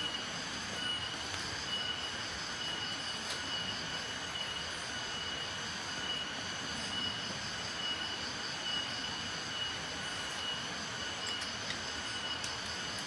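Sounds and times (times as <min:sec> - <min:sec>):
thin high steady tones: 0:00.0 - 0:13.0.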